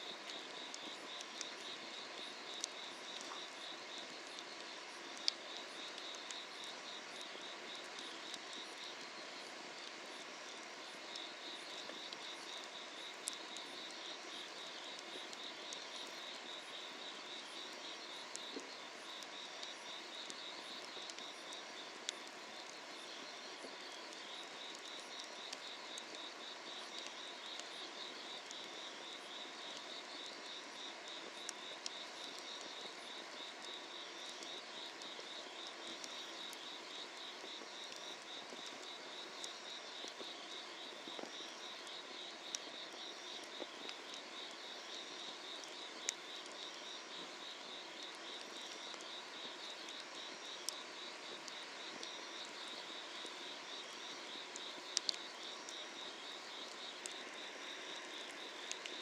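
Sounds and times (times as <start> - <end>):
insects chirping: 0.0 - 59.0
wood fire hissing: 0.0 - 59.0.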